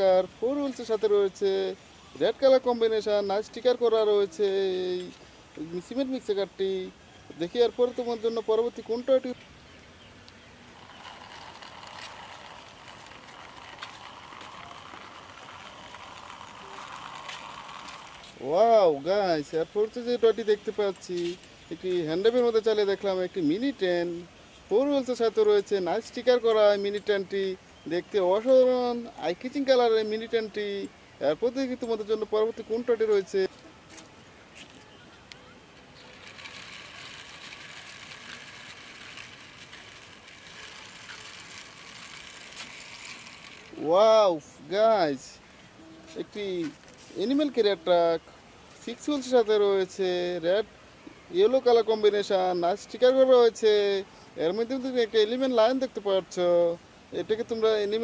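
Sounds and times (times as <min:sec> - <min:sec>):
toy train wheels rolling on concrete: 0:00.0 - 0:58.0.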